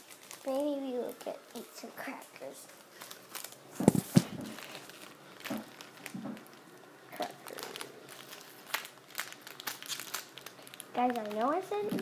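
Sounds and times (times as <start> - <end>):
crackers wrapper crinkling: 0.0 - 12.0.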